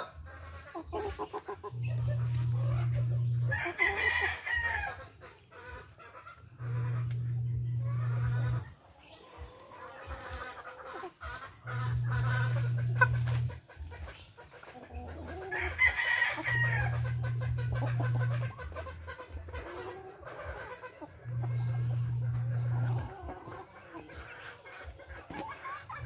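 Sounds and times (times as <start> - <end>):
low steady hum: 0.0 - 10.5, 11.2 - 26.0
chicken drawn-out call: 0.0 - 14.1, 14.8 - 26.0
chickens clucking: 0.0 - 26.0.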